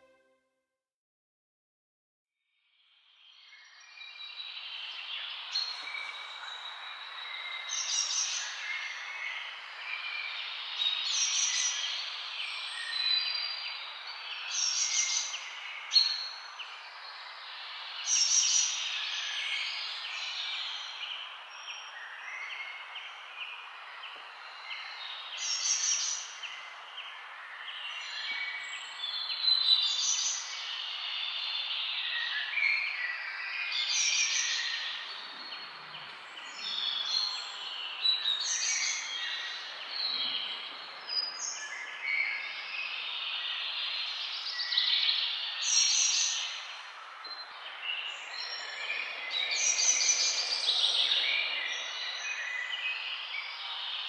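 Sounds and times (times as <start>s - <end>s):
songbirds chirping and singing: 3.4s - 54.0s.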